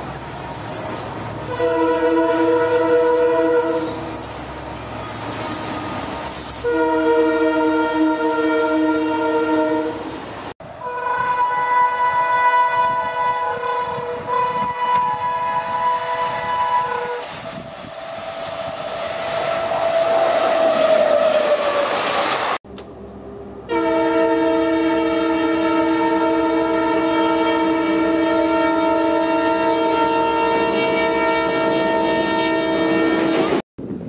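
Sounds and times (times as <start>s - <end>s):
train wheel and rail noise: 0.0s - 34.0s
locomotive air horn: 1.0s - 4.5s, 6.6s - 10.2s, 10.8s - 22.0s, 23.7s - 33.6s.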